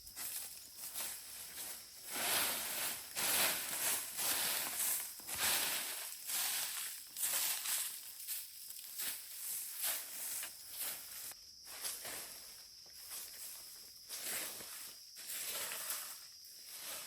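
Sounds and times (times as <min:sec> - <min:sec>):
rustling and crunching of dry leaves: 0:00.0 - 0:17.0.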